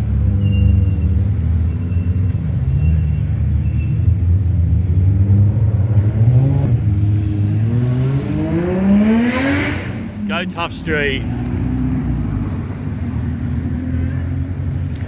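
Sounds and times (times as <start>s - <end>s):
car engine rumbling and revving: 0.0s - 15.0s.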